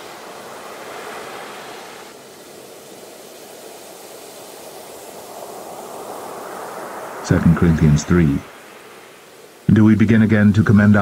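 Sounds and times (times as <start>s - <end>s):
ocean waves breaking on beach: 0.0s - 9.9s.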